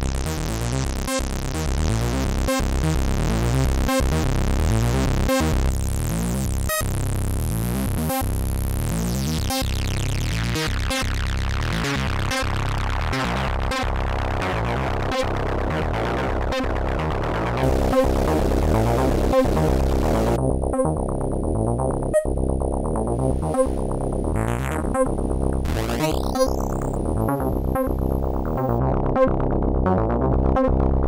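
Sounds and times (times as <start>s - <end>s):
synth bass sequence: 0.0s - 31.0s.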